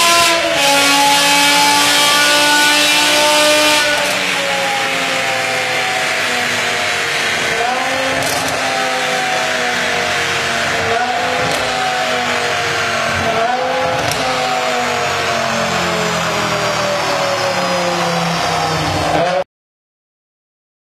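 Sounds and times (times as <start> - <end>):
loud car engine and exhaust: 0.0 - 19.4.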